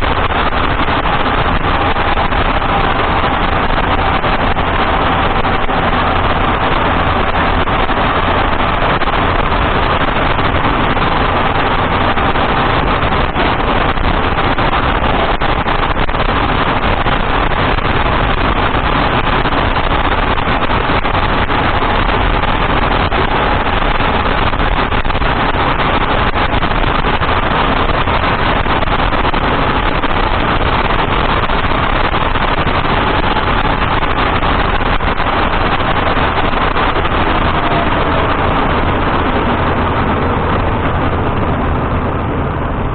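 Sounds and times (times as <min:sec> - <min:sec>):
tyre and road noise: 0:00.0 - 0:42.9.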